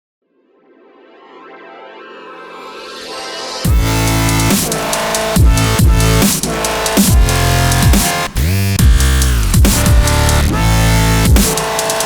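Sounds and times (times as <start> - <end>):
electronic synthesizer music: 0.4 - 12.0.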